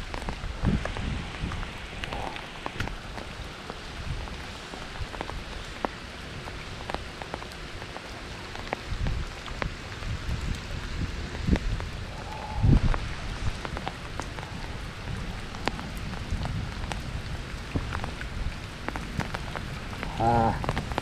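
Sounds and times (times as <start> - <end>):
rain falling steadily: 0.0 - 21.0
raindrops ticking close by: 0.0 - 21.0.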